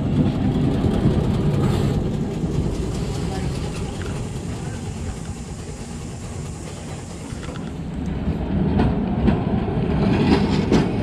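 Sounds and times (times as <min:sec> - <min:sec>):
tram rumbling on rails: 0:00.0 - 0:11.0
wheels clicking on track: 0:00.0 - 0:11.0.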